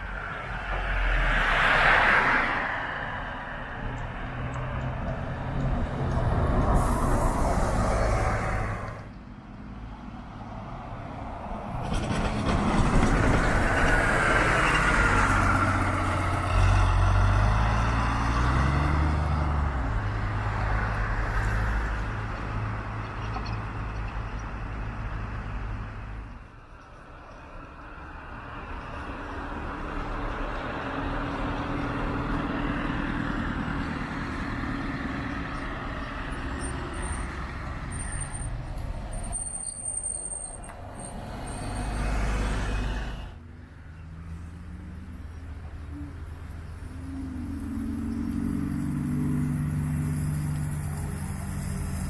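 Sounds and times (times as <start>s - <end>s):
bus engine: 0.0s - 52.0s
tyre and traffic noise: 0.0s - 52.0s.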